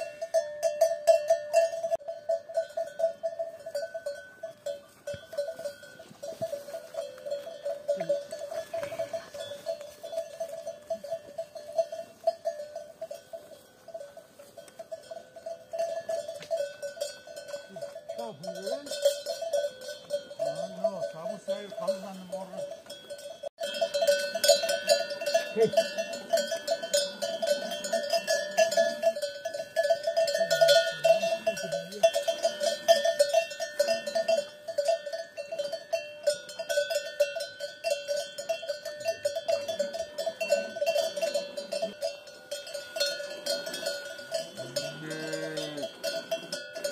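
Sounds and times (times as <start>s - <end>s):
cowbell clanking: 0.0s - 46.9s.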